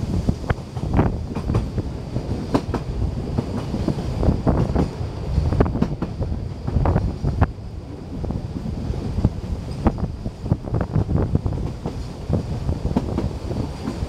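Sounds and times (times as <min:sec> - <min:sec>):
train running gear rumble: 0:00.0 - 0:14.0.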